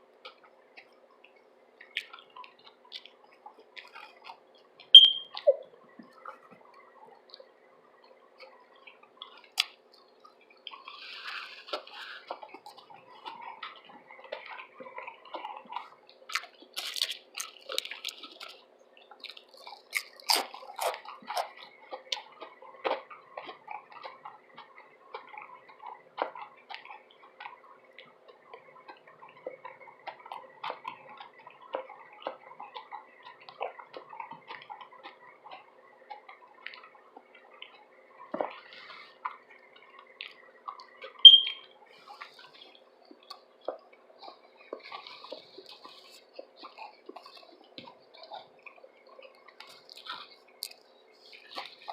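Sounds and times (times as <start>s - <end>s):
chewing with wet mouth clicks: 0.1s - 51.9s.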